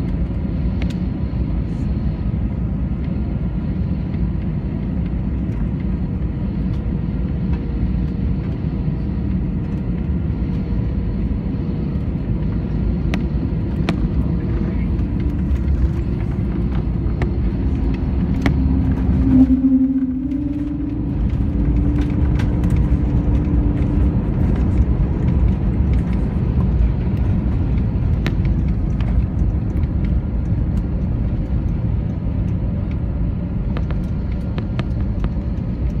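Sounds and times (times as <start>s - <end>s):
airliner cabin rumble: 0.0s - 36.0s
hum: 0.0s - 36.0s.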